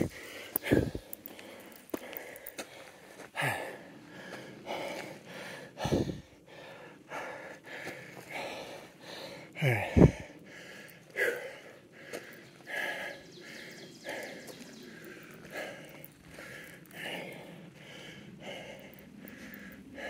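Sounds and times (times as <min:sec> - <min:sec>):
person breathing: 0:00.0 - 0:20.0.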